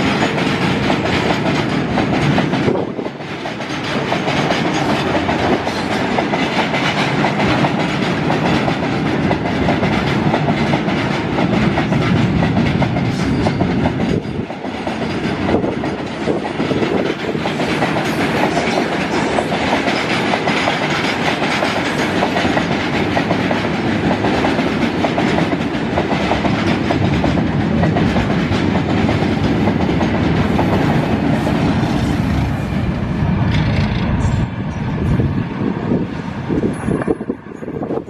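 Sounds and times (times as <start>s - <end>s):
clickety-clack over rail joints: 0.0s - 38.0s
freight train wheels rumbling: 0.0s - 38.0s.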